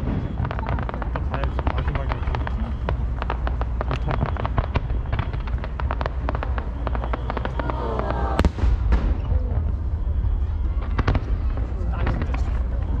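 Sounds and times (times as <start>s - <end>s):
fireworks popping and crackling: 0.0s - 13.0s
loud firework bang: 0.0s - 13.0s.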